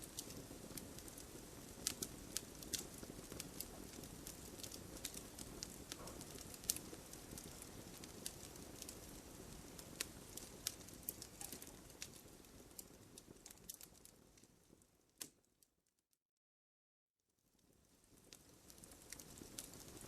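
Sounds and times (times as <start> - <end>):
low rush of flame: 0.0 - 14.8, 17.8 - 20.0
campfire crackling and popping: 0.0 - 15.4, 17.6 - 20.0.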